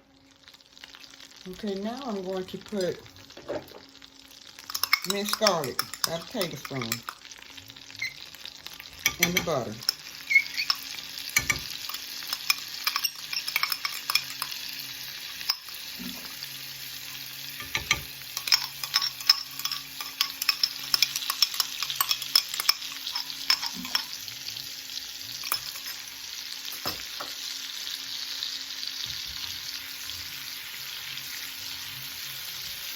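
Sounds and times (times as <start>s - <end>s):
garlic sizzling in butter: 0.2s - 32.9s.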